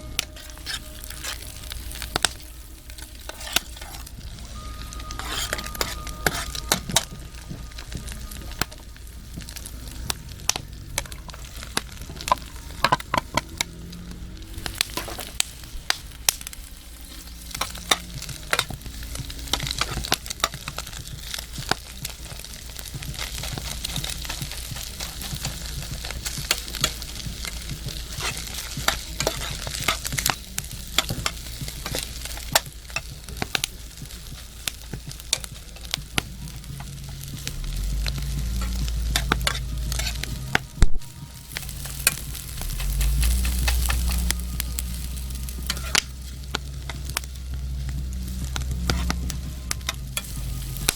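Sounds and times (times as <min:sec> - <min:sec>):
spatula scraping a pan: 0:00.0 - 0:40.6, 0:41.4 - 0:50.9
low rumble: 0:00.0 - 0:50.9
rice sizzling in a pan: 0:00.0 - 0:50.9.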